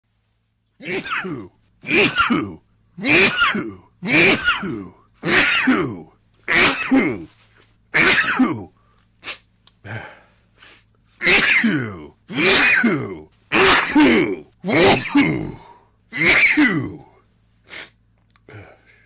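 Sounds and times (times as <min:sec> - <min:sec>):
man sneezing: 0:00.8 - 0:18.9.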